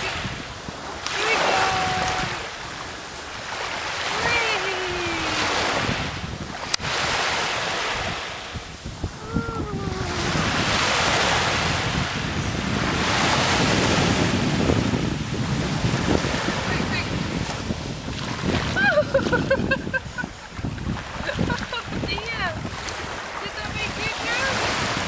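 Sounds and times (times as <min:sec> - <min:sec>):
small waves washing on sand: 0:00.0 - 0:25.0
wind buffeting microphone: 0:00.0 - 0:25.0.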